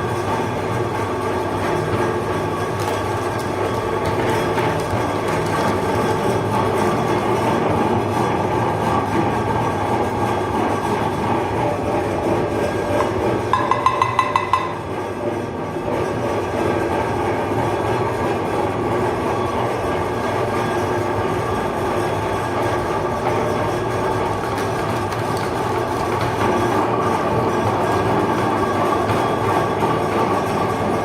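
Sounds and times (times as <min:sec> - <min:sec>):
meat grinder humming: 0:00.0 - 0:31.0.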